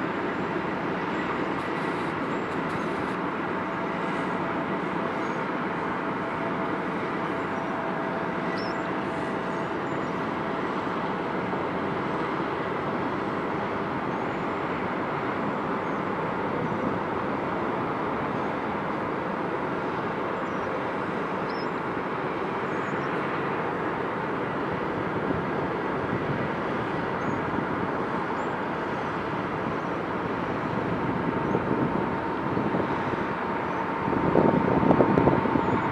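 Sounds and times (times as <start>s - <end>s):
heavy mining machinery rumble: 0.0s - 35.9s.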